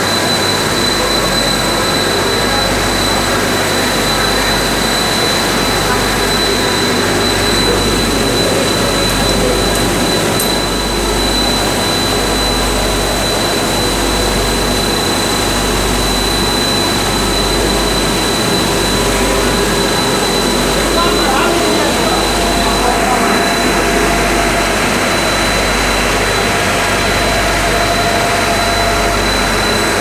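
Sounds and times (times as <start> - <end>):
high-pitched whine: 0.0 - 30.0
industrial machinery drone: 0.0 - 30.0.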